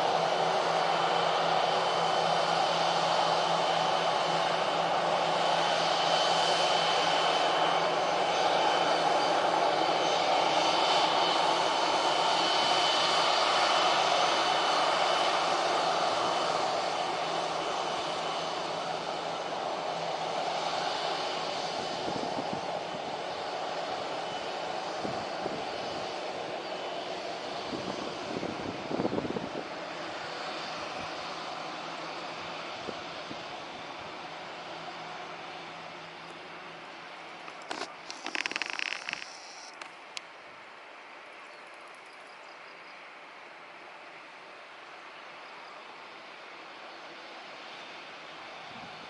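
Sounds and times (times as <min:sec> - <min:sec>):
high engine whine: 0:00.0 - 0:40.4
jet engines running: 0:00.0 - 0:42.2, 0:43.0 - 0:49.0.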